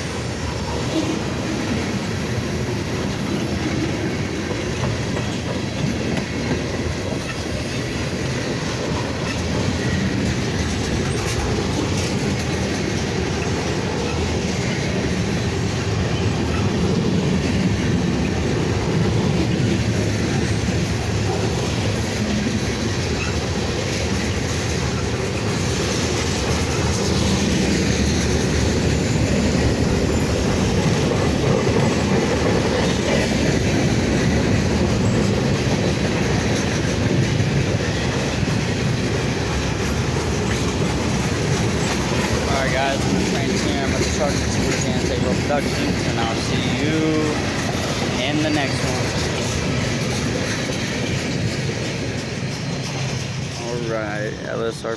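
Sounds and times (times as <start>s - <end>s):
freight train rumble: 0.0s - 54.9s
wheel clatter over rail joints: 0.0s - 54.9s.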